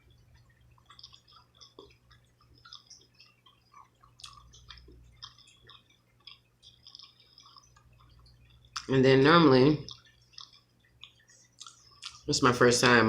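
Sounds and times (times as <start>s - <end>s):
steady low hum: 0.0s - 13.0s
wet chewing smacks: 0.1s - 8.9s, 9.8s - 12.3s.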